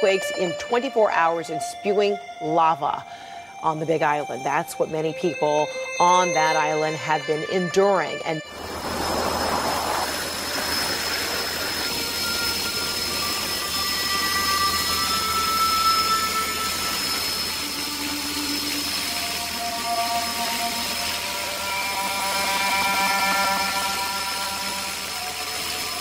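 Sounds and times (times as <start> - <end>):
aircraft engine hum: 0.0 - 26.0
high turbine whine: 0.0 - 26.0.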